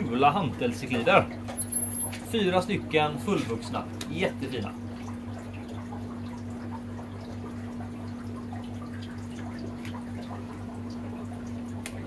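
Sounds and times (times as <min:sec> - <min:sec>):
electric hum of filters: 0:00.0 - 0:12.0
water trickling and dripping: 0:00.0 - 0:12.0.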